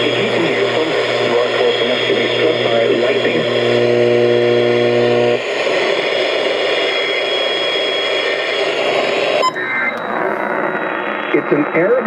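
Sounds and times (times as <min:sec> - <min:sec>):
radio static buzz: 0:00.0 - 0:12.0
radio static hiss: 0:00.0 - 0:12.0.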